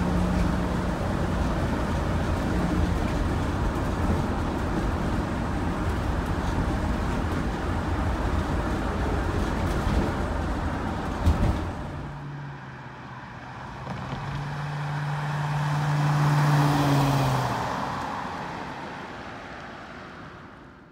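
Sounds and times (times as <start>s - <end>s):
bus driving past: 0.0s - 20.9s
road and engine rumble: 0.0s - 20.9s.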